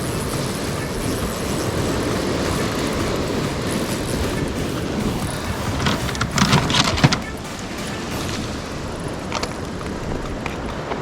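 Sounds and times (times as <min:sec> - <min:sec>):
sharp clicks and knocks: 0:00.0 - 0:11.0
surf at the shoreline: 0:00.0 - 0:11.0
wind: 0:00.0 - 0:11.0.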